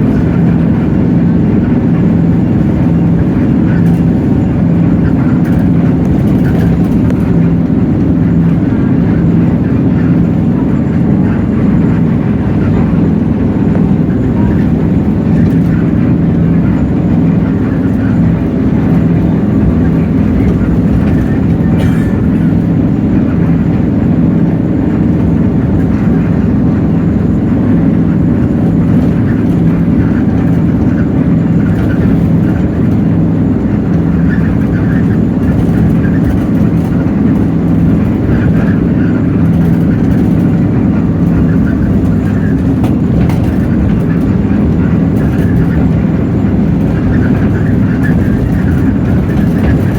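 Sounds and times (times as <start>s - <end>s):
bus diesel engine humming: 0.0s - 49.9s.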